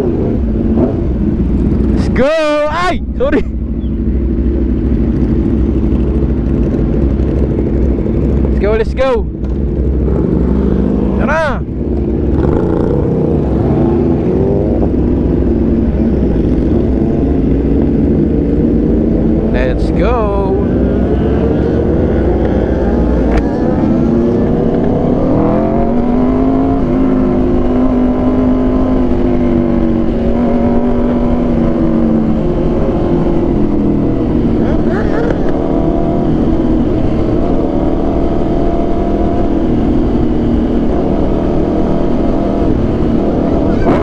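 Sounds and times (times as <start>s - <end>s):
motorcycle engine accelerating: 0.0s - 44.0s
wind rushing over microphone: 0.0s - 44.0s.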